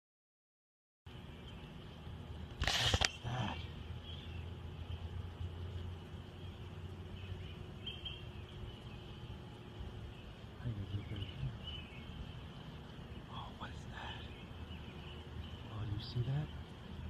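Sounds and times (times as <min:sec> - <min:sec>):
low hum: 0:01.1 - 0:17.0
high insect chirring: 0:02.5 - 0:17.0.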